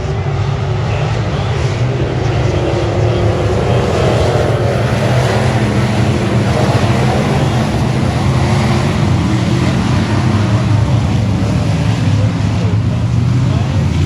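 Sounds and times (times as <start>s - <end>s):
race car engine drone: 0.0s - 14.0s.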